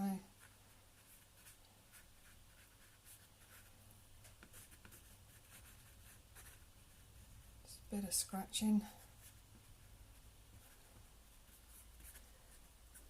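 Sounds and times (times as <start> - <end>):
low steady hum: 0.0 - 13.0
paintbrush scratching on canvas: 0.0 - 13.0.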